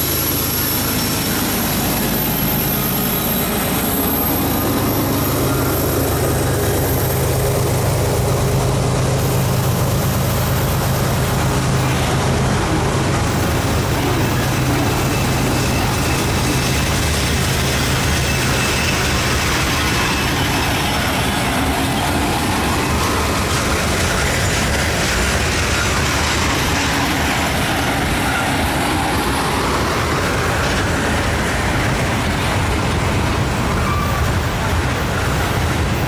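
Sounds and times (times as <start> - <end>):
diesel locomotive passing: 0.0 - 36.0
steel wheels rumbling on rails: 0.0 - 36.0.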